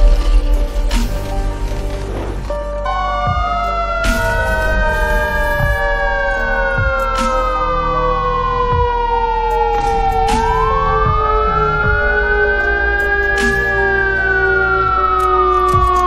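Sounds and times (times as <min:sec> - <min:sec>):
low gliding siren tone: 0:02.4 - 0:16.0
siren wailing: 0:02.5 - 0:16.0.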